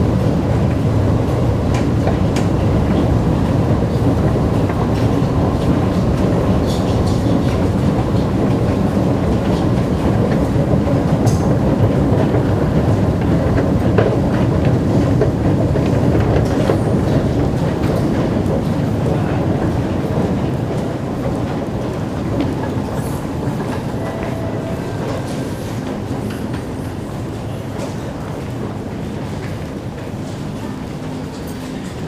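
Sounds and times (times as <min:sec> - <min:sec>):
low rumble of underground station: 0:00.0 - 0:32.0.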